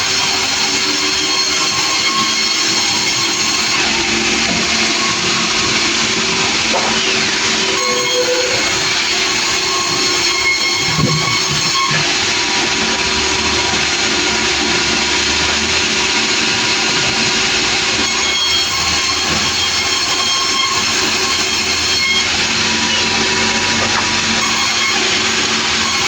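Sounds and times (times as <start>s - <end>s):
sawmill saw cutting timber: 0.0s - 26.0s.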